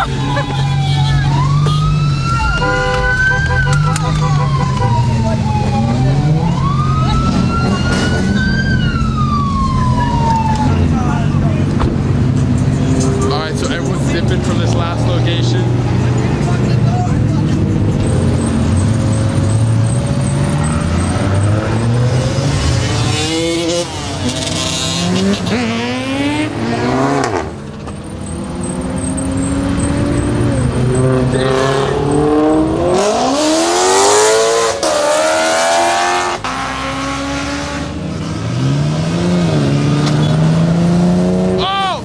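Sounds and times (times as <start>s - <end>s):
car engines revving past: 3.1s - 41.6s.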